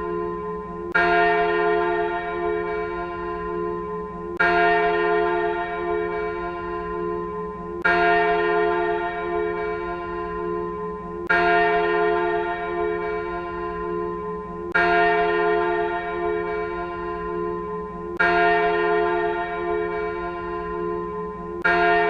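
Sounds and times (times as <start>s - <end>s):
church bell tolling: 0.0s - 22.0s.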